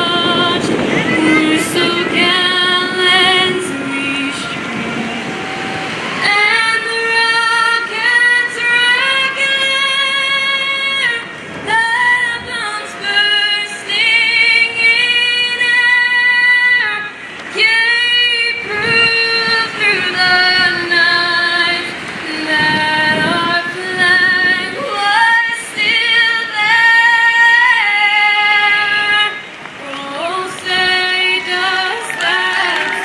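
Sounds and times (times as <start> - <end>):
woman singing an anthem: 0.0 - 4.8, 6.1 - 33.0.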